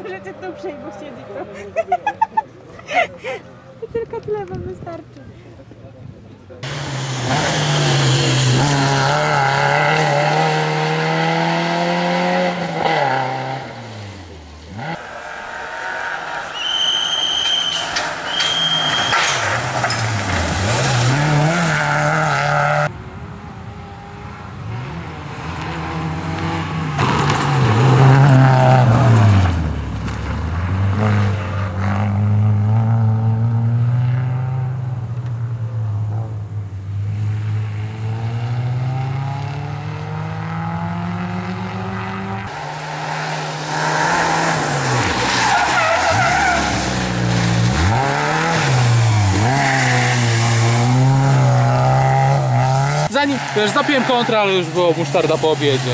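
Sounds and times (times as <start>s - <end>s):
rally car engine revving past: 6.6s - 14.1s, 15.7s - 36.3s, 36.9s - 55.9s.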